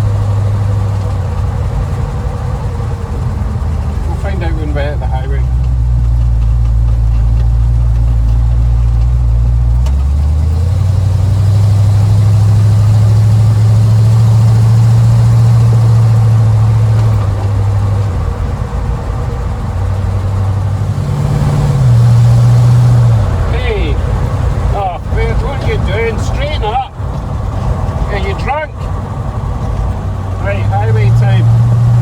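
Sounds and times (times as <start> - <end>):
car engine through glasspack mufflers: 0.0 - 32.0.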